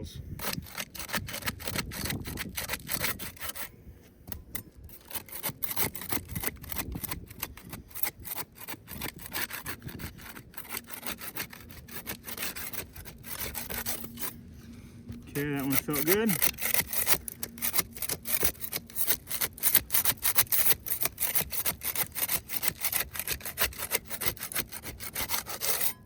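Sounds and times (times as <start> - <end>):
granules grinding: 0.4 - 3.7, 4.4 - 26.0
flat bar scraping shingles: 0.4 - 26.0.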